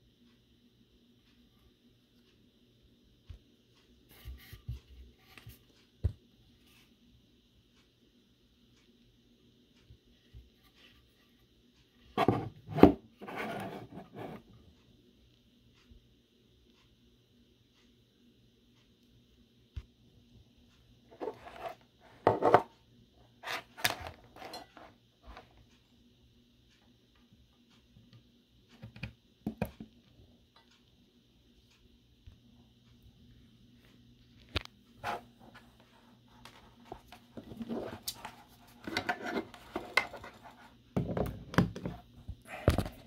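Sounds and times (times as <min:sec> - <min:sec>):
faint steady low hum: 0:00.0 - 0:43.0.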